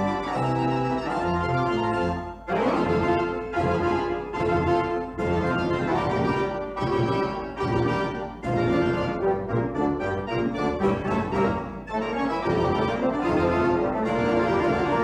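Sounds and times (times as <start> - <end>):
organ-like keyboard chords: 0.0 - 15.0.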